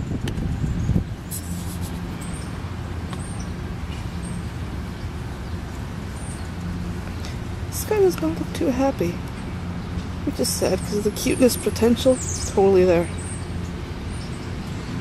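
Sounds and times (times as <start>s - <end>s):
traffic engine hum: 0.0s - 15.0s
wind rumble on microphone: 0.0s - 15.0s.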